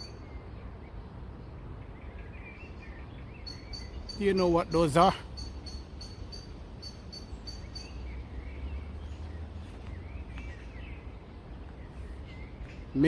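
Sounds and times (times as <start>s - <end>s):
small birds calling: 0.0s - 13.0s.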